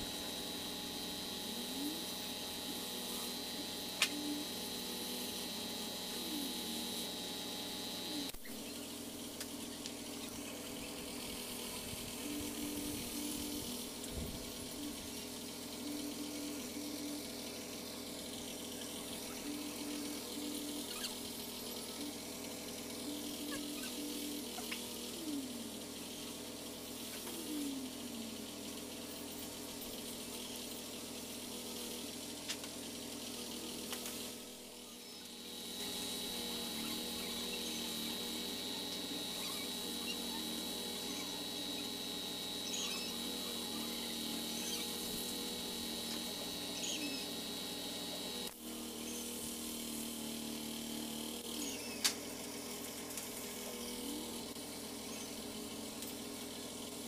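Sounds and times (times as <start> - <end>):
paint spray gun hissing: 0.0 - 57.0
steady high whine: 0.0 - 57.0.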